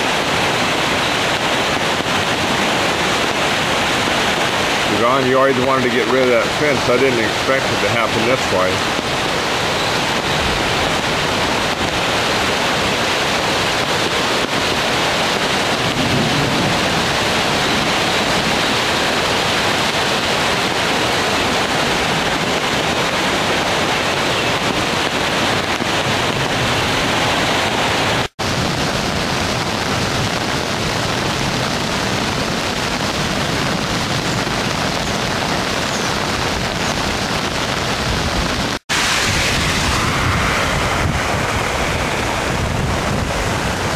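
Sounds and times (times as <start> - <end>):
creek water rushing: 0.0 - 43.9.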